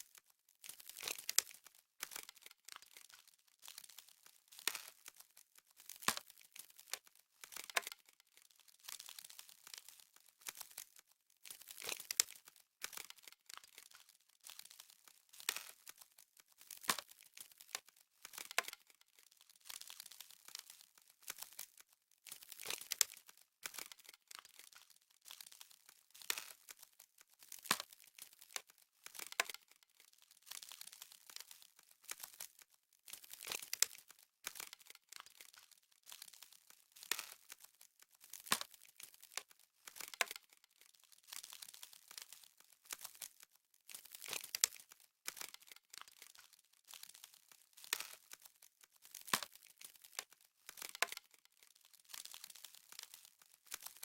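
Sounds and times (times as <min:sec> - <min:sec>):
frost crackling and rustling: 0:00.0 - 0:54.0.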